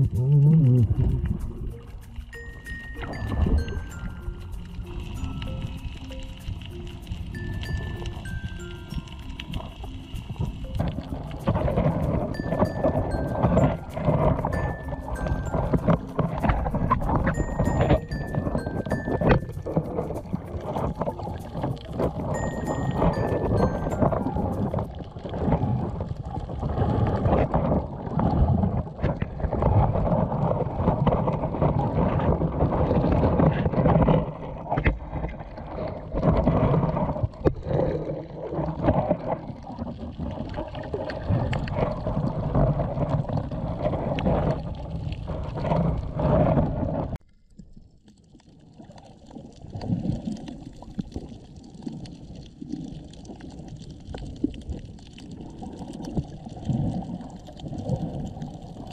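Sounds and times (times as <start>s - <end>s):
muffled underwater water rushing: 0.0s - 58.9s.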